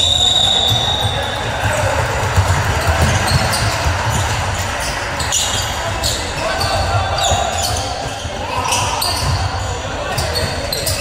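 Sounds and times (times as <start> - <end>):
basketball bouncing on gym court: 0.4 - 11.0.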